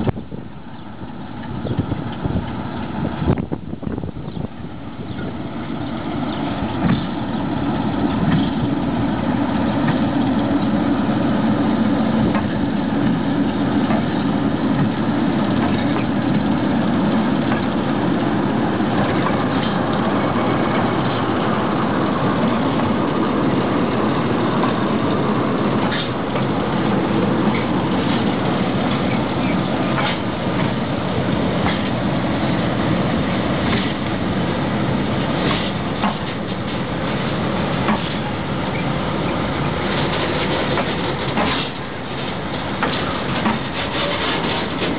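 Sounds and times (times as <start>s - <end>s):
diesel locomotive engine running: 0.0s - 44.9s.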